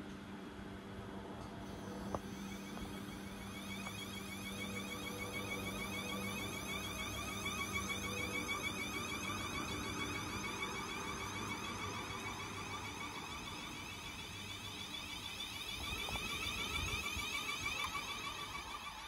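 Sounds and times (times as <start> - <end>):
electric train motor whine: 0.0 - 19.0
low hum: 0.0 - 19.0.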